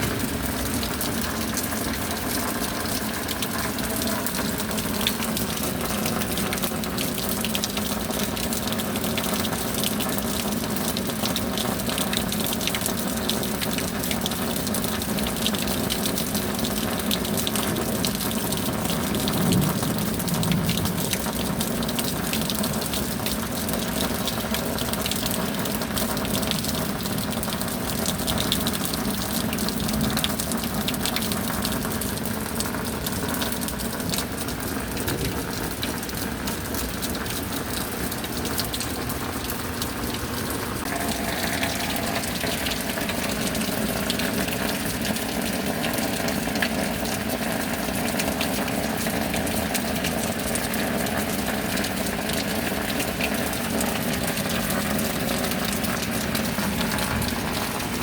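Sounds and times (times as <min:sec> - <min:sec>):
rain pattering: 0:00.0 - 0:58.0
running water: 0:00.0 - 0:58.0.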